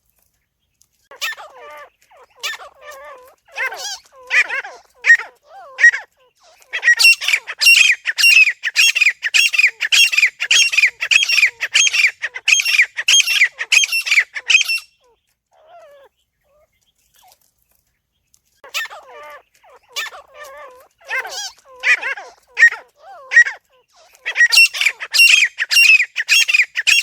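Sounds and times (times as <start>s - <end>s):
francolin calling: 1.2s - 16.7s, 18.7s - 27.0s.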